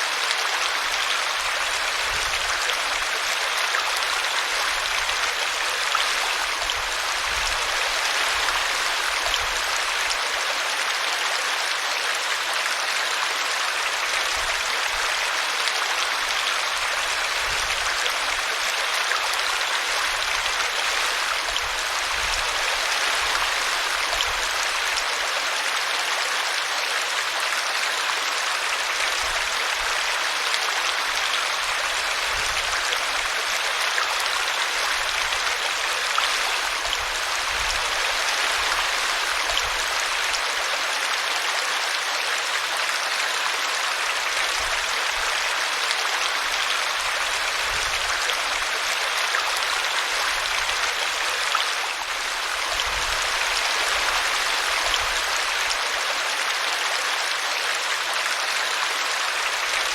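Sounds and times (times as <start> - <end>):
brook running and splashing: 0.0 - 59.9.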